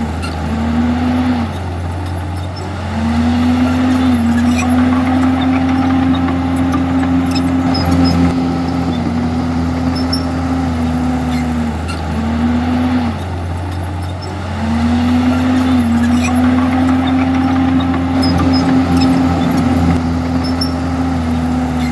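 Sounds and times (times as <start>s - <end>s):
bulldozer diesel engine revving: 0.0s - 21.9s.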